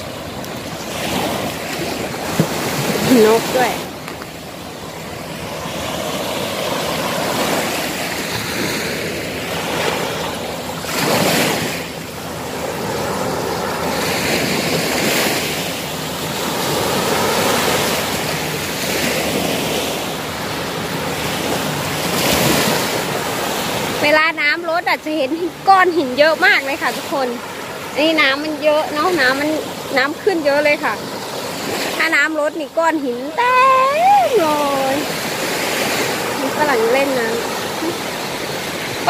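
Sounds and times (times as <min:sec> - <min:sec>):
waves washing up a beach: 0:00.0 - 0:39.0.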